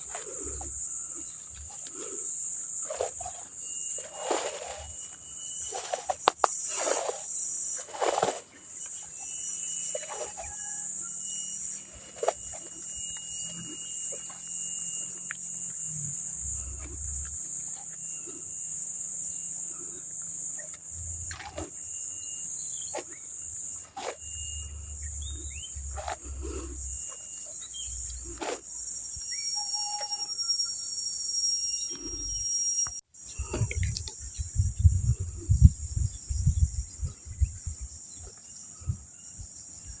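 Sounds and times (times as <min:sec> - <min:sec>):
insects chirping: 0:00.0 - 0:40.0.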